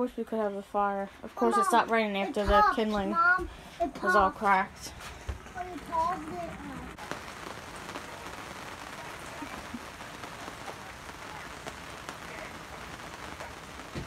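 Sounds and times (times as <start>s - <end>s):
rain hissing: 1.0s - 14.0s
raindrops ticking: 1.5s - 14.0s.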